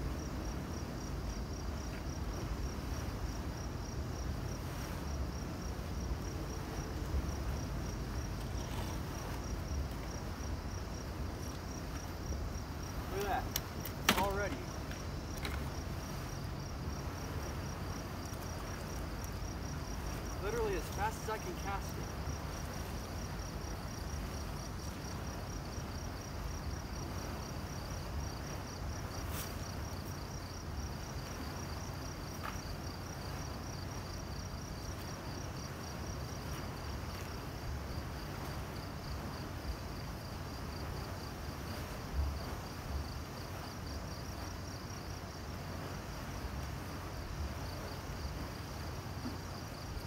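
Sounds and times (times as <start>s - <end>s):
crickets chirping: 0.0s - 50.0s.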